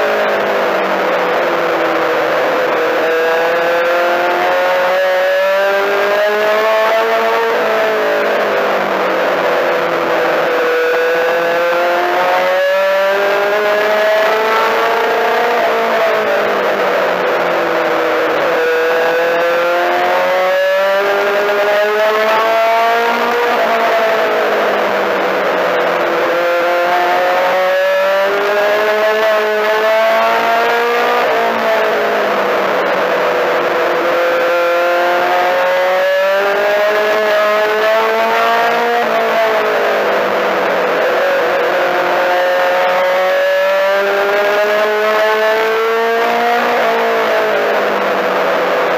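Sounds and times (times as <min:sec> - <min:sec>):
race car engine accelerating: 0:00.0 - 0:48.9.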